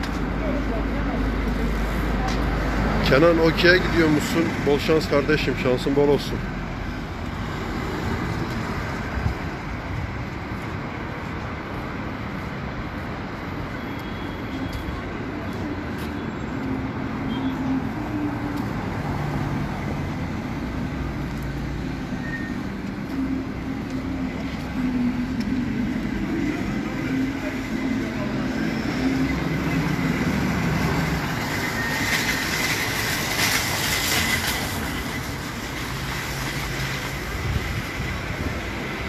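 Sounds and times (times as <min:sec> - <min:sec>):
traffic engines passing: 0:00.0 - 0:39.0.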